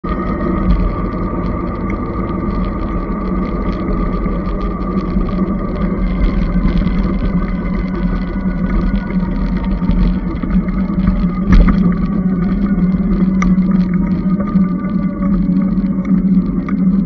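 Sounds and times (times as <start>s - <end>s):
electric bike motor humming: 0.0s - 17.0s
wind rumble on microphone: 0.0s - 17.0s.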